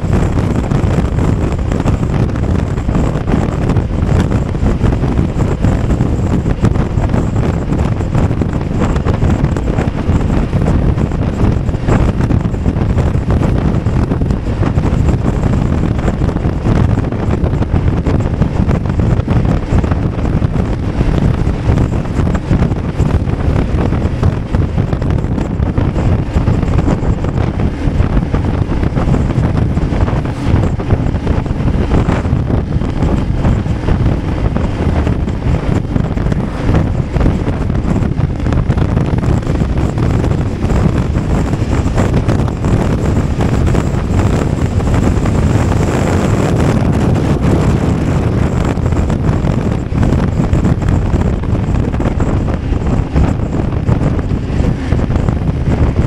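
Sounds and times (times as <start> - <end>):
motorcycle engine: 0.0 - 56.0
road noise: 0.0 - 56.0
wind rush on microphone: 0.0 - 56.0.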